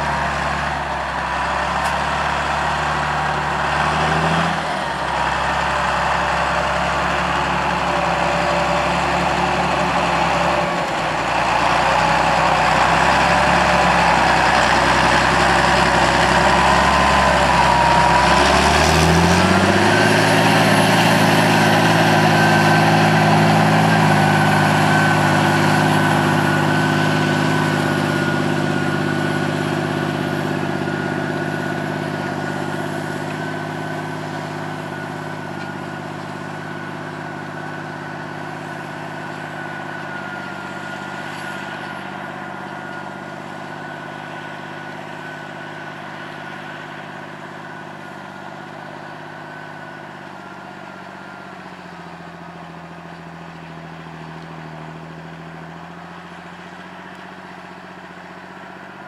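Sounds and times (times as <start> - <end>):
tractor diesel engine: 0.0 - 59.0
steady whine: 4.5 - 59.0.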